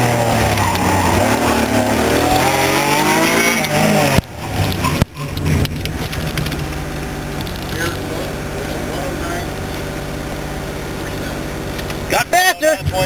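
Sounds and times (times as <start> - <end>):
car engine revving hard: 0.0 - 12.4.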